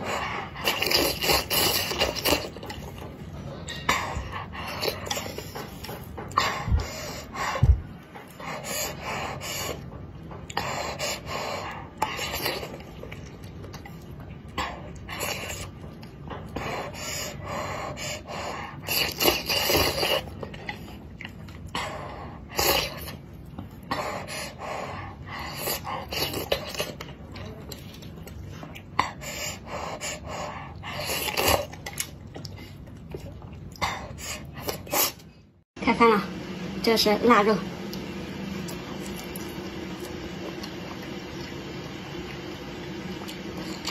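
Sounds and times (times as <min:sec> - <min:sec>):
slurping: 0:00.0 - 0:07.6, 0:08.2 - 0:35.4, 0:37.9 - 0:43.9
chewing: 0:00.0 - 0:17.5, 0:18.3 - 0:35.3, 0:37.9 - 0:42.4, 0:43.1 - 0:43.9.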